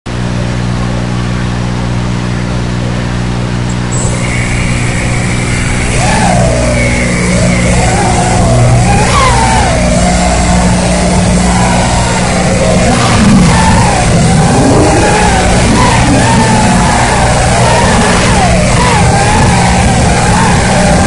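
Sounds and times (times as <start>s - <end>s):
low electrical hum: 0.1s - 21.0s
drone motors whining: 3.7s - 21.0s.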